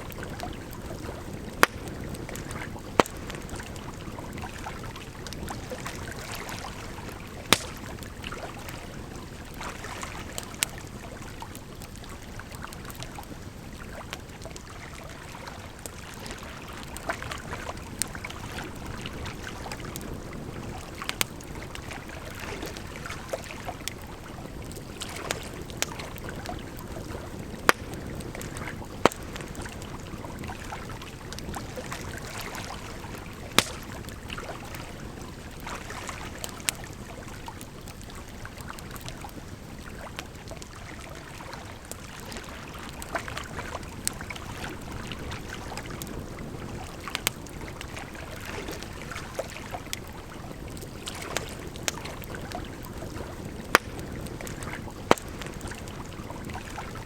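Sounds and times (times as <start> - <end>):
flowing water: 0.0 - 57.0
wood fire crackling: 0.0 - 57.0.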